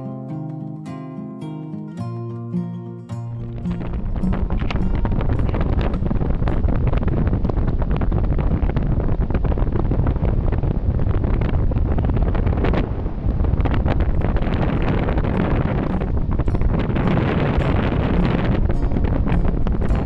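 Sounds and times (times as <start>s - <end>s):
crackle: 3.1s - 20.0s
wind buffeting microphone: 3.1s - 20.0s.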